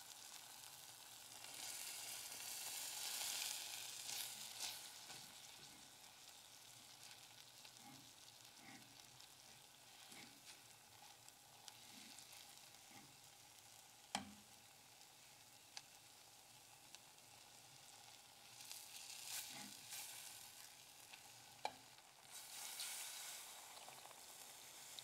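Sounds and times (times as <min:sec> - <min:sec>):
faint sizzle: 0:00.0 - 0:25.0.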